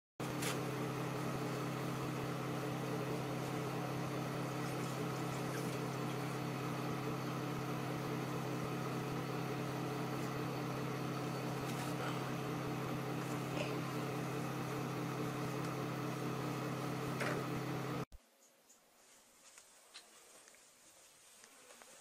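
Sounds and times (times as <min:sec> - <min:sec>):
steady low hum: 0:00.2 - 0:22.0.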